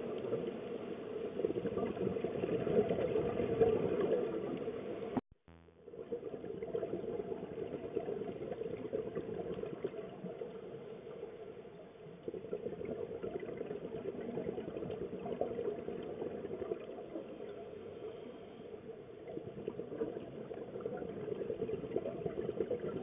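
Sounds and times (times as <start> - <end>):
muffled underwater crackle: 0.0 - 23.0.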